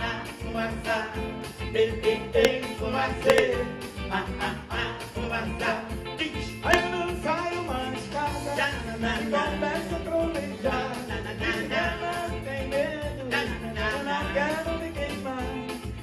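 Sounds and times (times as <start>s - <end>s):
male group singing: 0.0s - 15.4s
bass and steady beat: 0.0s - 16.0s.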